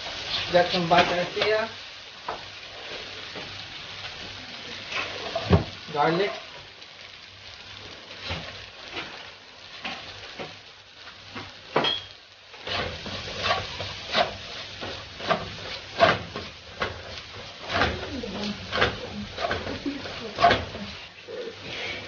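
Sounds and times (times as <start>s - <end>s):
butter sizzling in a pan: 0.0s - 22.0s.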